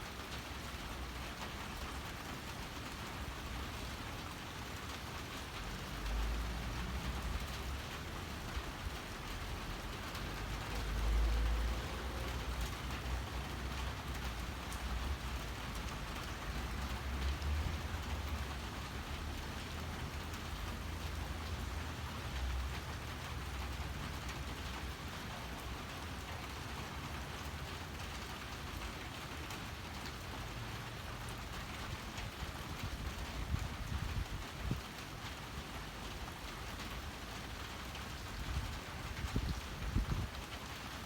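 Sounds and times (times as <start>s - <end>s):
steady rain falling: 0.0s - 41.0s
low rumble of wind: 0.2s - 41.0s.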